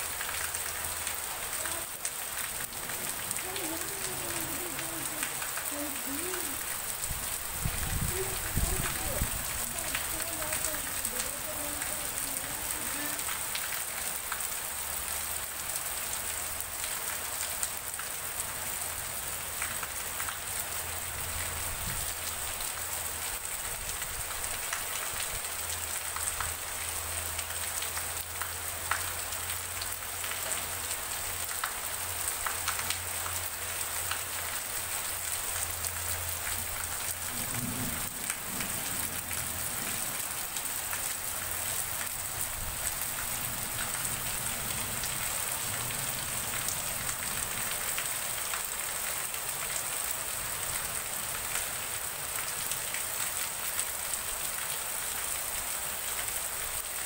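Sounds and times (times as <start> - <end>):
heavy rain on concrete: 0.0 - 57.0.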